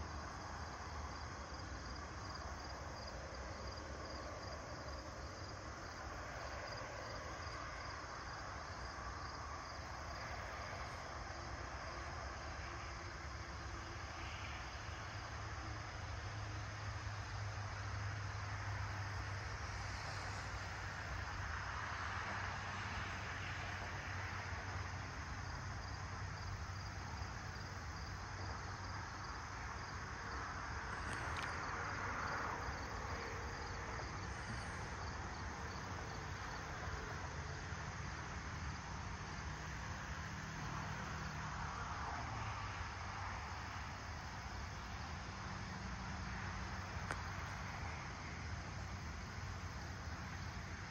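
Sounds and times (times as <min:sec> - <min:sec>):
crickets chirping: 0:00.0 - 0:50.9
low hum and hiss: 0:00.0 - 0:50.9.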